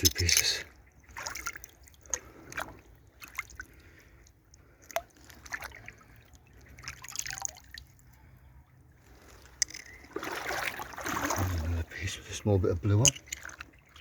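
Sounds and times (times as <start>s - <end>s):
brook water splashing: 0.0s - 8.1s, 9.0s - 14.0s
faint water trickle: 0.0s - 14.0s.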